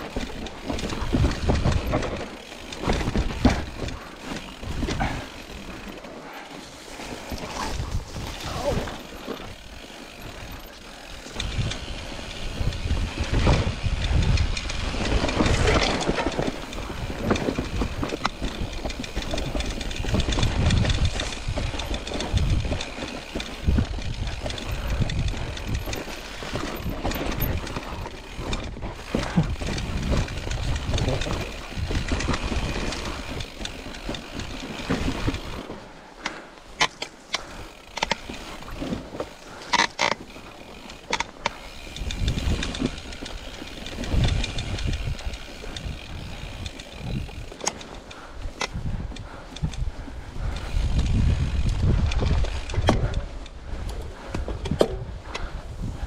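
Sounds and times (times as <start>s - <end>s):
wind rumbling on microphone: 0.0s - 36.0s, 37.4s - 56.0s
mountain bike rattling on trail: 0.0s - 56.0s.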